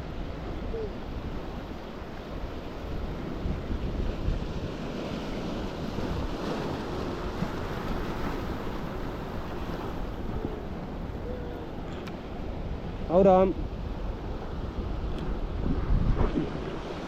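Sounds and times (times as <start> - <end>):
sea surf on rocky shore: 0.0 - 17.0
wind buffeting microphone: 0.0 - 17.0.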